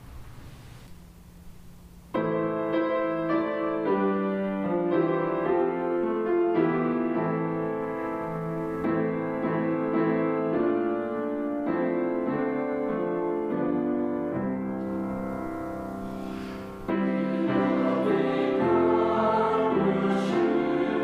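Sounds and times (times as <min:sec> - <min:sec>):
piano playing a hymn: 0:02.1 - 0:21.0.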